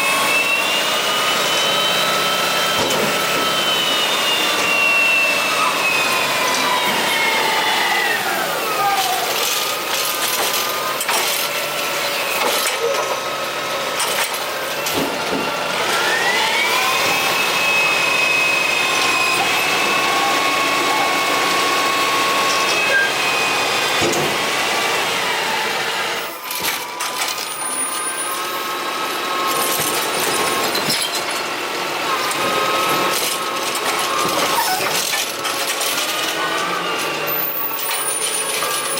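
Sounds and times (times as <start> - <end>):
hydraulic pump whining: 0.0 - 38.9.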